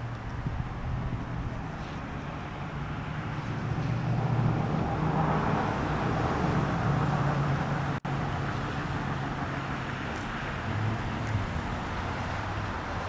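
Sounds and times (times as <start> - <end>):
motor vehicle humming: 0.0 - 13.0.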